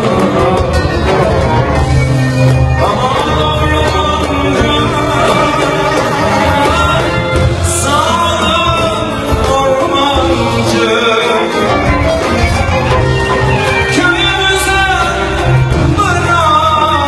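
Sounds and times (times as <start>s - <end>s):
man singing: 0.0s - 13.0s, 13.6s - 17.0s
live band playing folk-pop: 0.0s - 17.0s.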